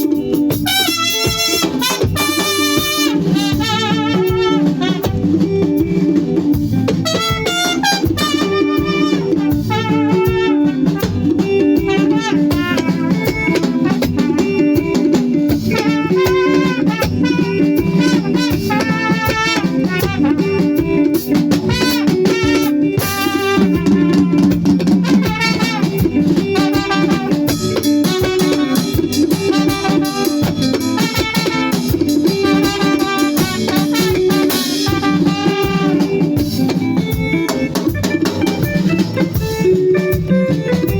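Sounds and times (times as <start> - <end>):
drum kit beat: 0.0 - 40.9
bass pattern: 2.0 - 40.9.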